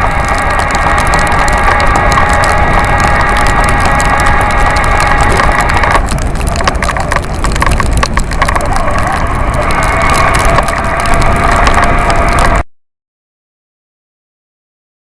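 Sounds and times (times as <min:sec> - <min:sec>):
electric bike motor whining: 0:00.0 - 0:12.6
road noise: 0:00.0 - 0:12.6
wind noise: 0:00.0 - 0:12.6.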